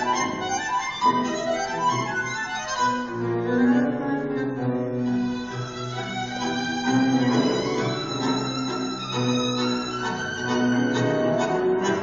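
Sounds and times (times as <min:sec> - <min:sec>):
tango music with violins: 0:00.0 - 0:12.0.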